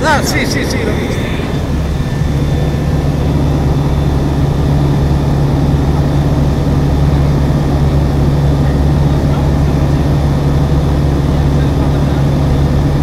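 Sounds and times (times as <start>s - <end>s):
aircraft engine and propeller hum: 0.0s - 13.0s.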